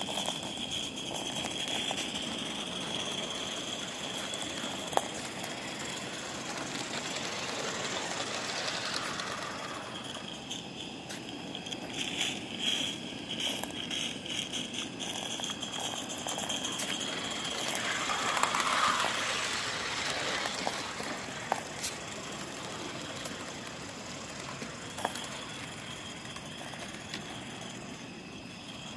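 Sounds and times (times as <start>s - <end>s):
model steam locomotive rattling: 0.0s - 28.9s
steam hiss: 0.0s - 28.9s.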